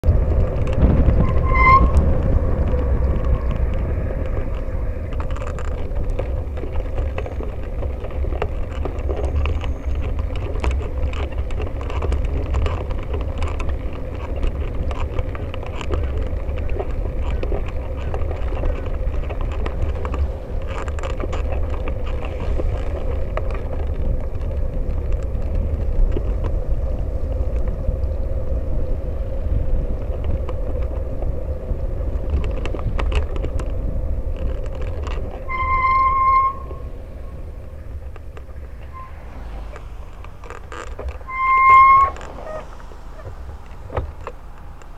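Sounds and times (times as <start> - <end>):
tyres on wet road: 0.0 - 44.9
wind buffeting microphone: 0.0 - 44.9.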